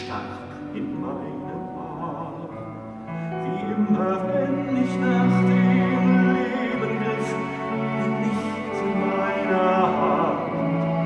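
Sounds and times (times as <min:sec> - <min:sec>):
orchestra playing sustained chords: 0:00.0 - 0:11.0.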